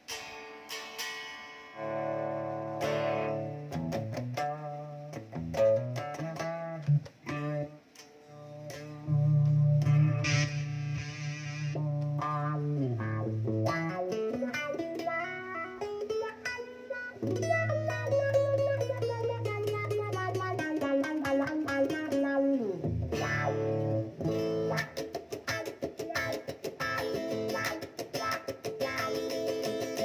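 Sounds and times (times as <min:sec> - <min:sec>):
electric guitar with effects: 0:00.0 - 0:30.0.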